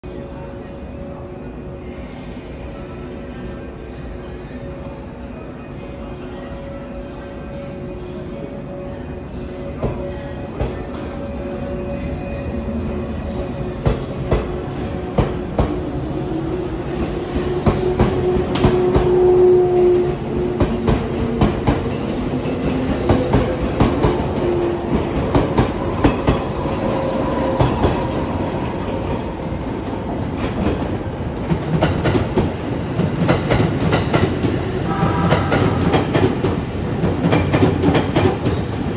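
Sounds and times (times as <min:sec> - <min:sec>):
train chord of tones: 0:00.0 - 0:31.2, 0:33.8 - 0:38.9.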